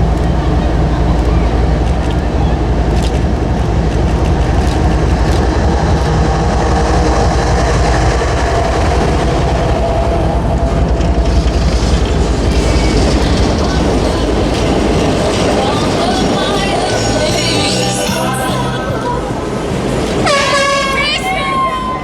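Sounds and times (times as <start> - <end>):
train rumbling past: 0.0 - 22.0
wheels clicking over rail joints: 0.0 - 22.0.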